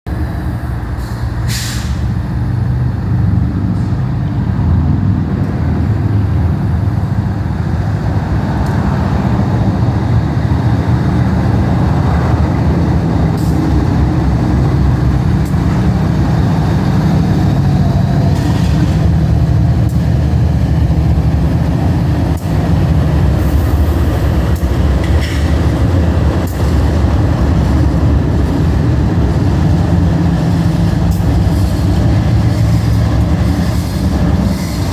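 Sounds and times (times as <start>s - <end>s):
locomotive engine drone: 0.1s - 34.9s.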